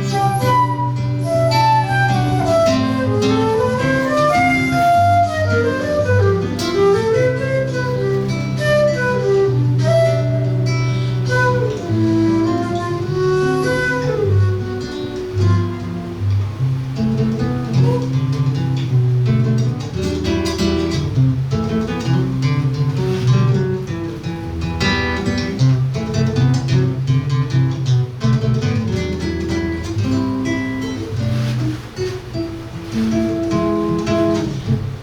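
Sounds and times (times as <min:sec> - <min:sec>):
acoustic guitar playing chords: 0:00.0 - 0:35.0.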